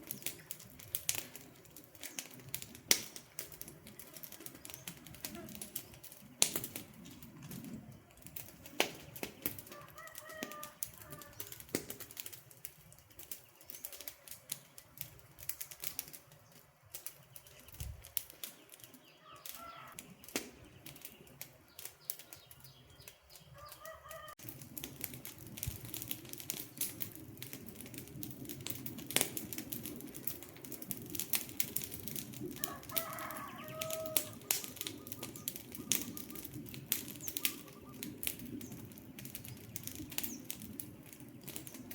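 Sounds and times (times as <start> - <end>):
campfire crackling and popping: 0.0 - 41.9
low rush of flames: 0.0 - 41.9.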